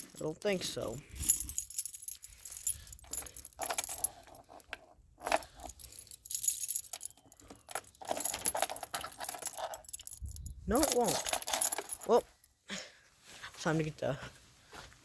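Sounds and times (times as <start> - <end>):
keys jangling in ignition: 0.0 - 12.4.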